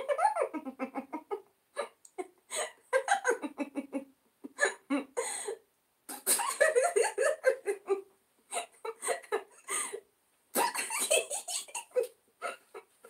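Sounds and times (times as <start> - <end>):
people chuckling and giggling: 0.0 - 5.5, 6.2 - 10.0, 10.6 - 13.0.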